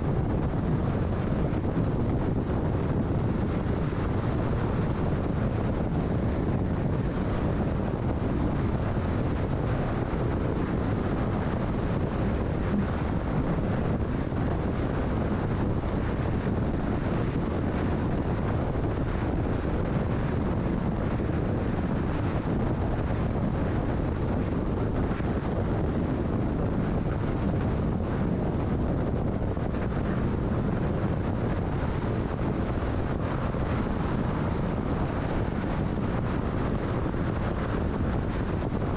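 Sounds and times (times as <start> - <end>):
wind noise of moving car: 0.0 - 38.9.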